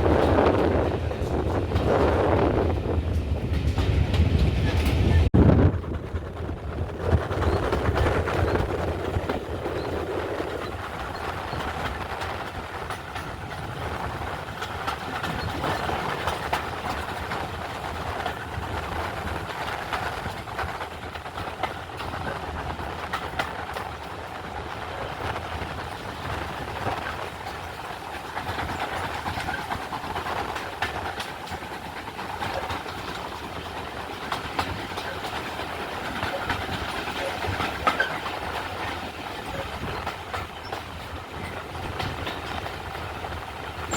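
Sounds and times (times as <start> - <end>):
steam train passing: 0.0 - 43.9
train wheels clicking on rail joints: 0.0 - 43.9.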